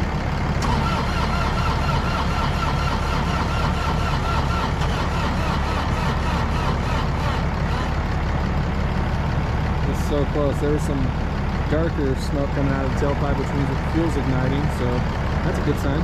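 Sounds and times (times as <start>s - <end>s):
diesel engine cranking on starter: 0.0s - 16.0s.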